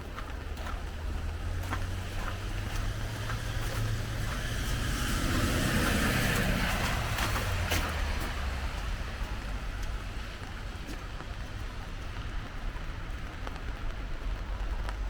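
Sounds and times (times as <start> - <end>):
footsteps clicking: 0.0 - 15.0
car tyres hissing on wet road: 0.4 - 15.0.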